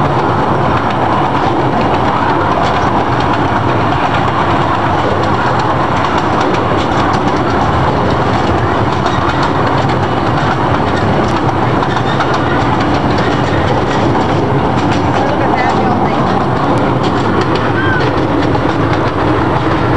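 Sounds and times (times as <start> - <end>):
train wheels running on rails: 0.0 - 19.9.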